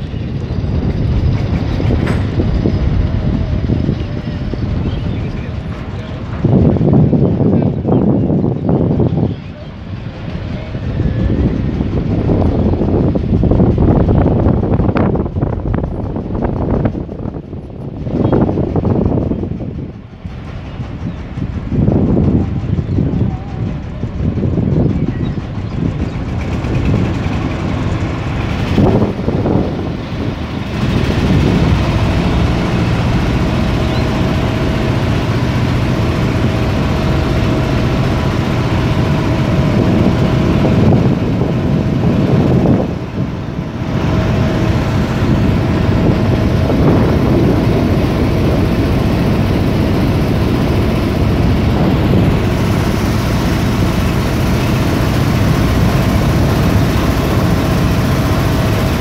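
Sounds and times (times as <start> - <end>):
motor boat engine running: 0.0 - 59.0.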